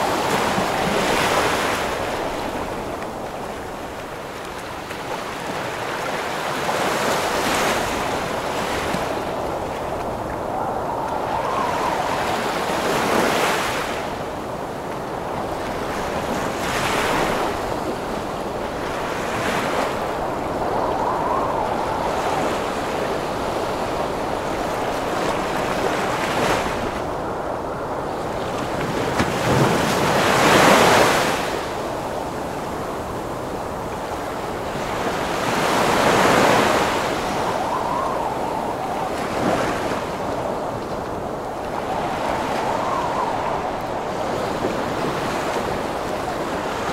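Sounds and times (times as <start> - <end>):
ocean waves crashing: 0.0 - 46.9
rushing wind: 0.0 - 46.9.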